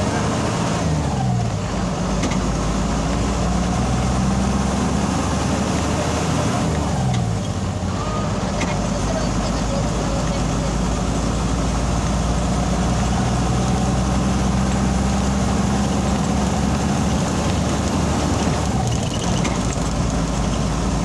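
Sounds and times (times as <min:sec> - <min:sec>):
vehicle engine humming: 0:00.0 - 0:21.0
wind and road noise: 0:00.0 - 0:21.0.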